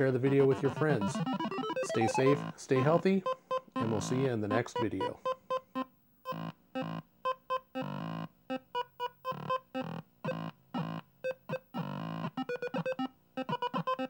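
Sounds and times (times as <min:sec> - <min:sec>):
beeping electronic music: 0:00.0 - 0:14.0.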